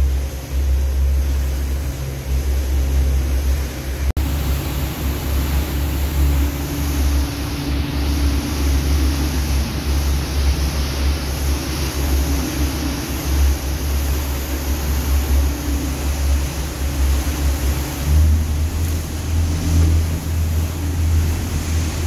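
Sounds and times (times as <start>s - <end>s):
boat engine drone: 0.0s - 22.0s.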